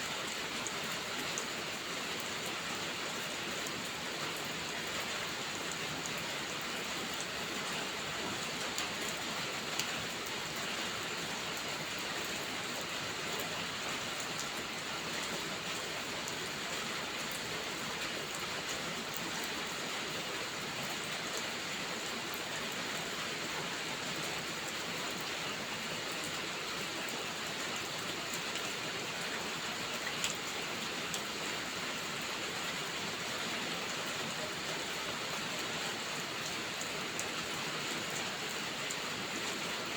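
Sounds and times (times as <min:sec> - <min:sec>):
steady rainfall hiss: 0:00.0 - 0:39.9
raindrops ticking nearby: 0:00.2 - 0:39.9.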